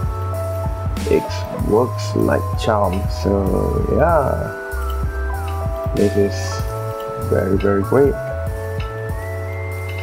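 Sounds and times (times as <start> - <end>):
background music with sustained chords: 0.0 - 10.0.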